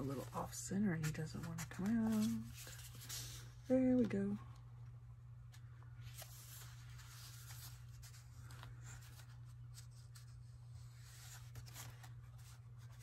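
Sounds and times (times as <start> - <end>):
paper rustling: 0.0 - 4.1, 5.5 - 13.0.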